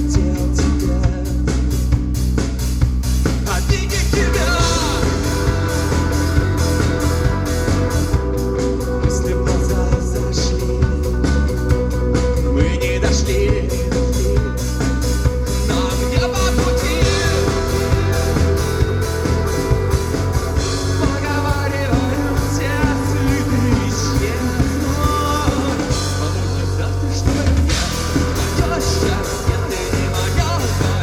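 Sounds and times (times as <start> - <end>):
drums keeping a steady beat: 0.0 - 31.0
rock band playing live: 0.0 - 31.0.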